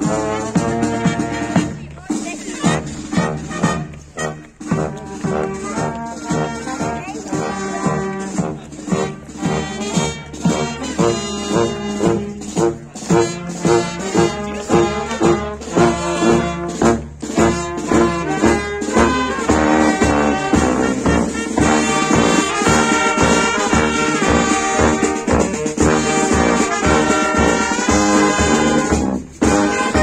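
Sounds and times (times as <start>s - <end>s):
brass band playing a march: 0.0s - 30.0s.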